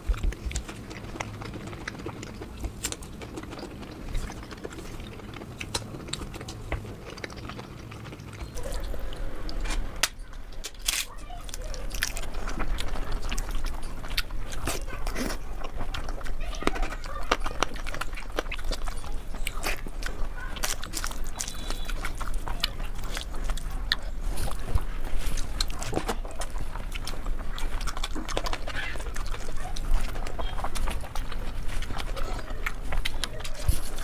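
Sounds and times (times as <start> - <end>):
person chewing: 0.0 - 34.0.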